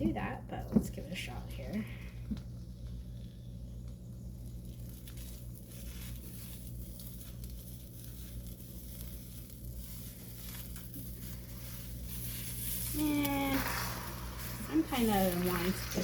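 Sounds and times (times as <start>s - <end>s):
low hum: 0.0s - 16.0s
eggs sizzling in a wok: 3.0s - 16.0s.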